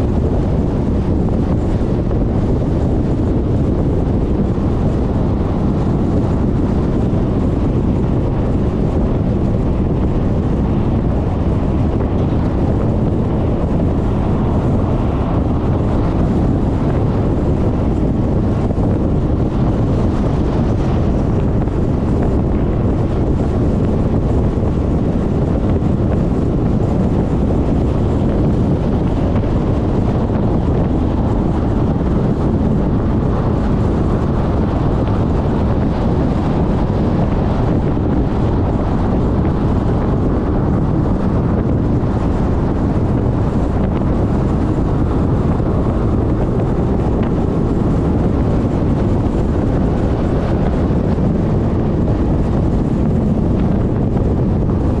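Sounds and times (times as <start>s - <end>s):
scooter engine and road noise: 0.0s - 55.0s
wind buffeting microphone: 0.0s - 55.0s.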